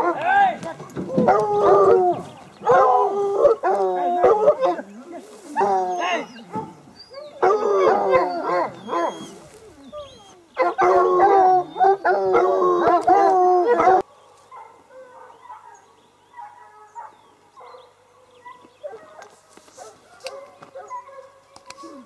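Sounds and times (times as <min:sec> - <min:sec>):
hounds howling and bawling: 0:00.0 - 0:22.0.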